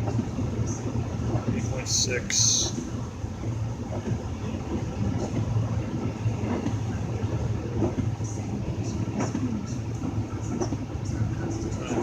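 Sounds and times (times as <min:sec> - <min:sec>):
car engine running steadily: 0:00.0 - 0:12.0
climate fans running: 0:00.0 - 0:12.0.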